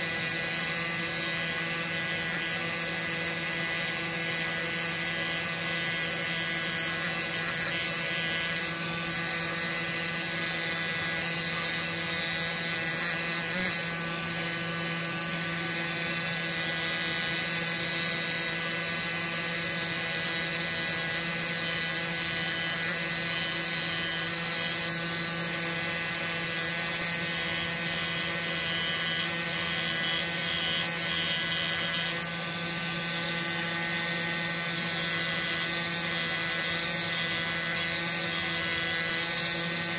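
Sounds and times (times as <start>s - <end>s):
air pen buzzing on rock: 0.0s - 39.9s.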